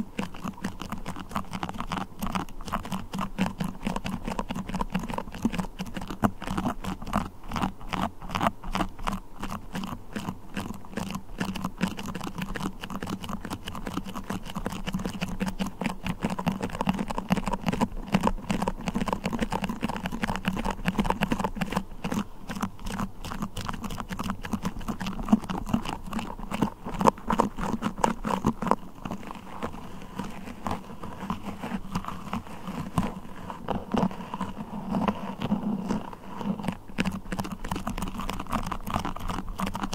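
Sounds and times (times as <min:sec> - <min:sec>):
sticky crackling and clicking: 0:00.0 - 0:39.9.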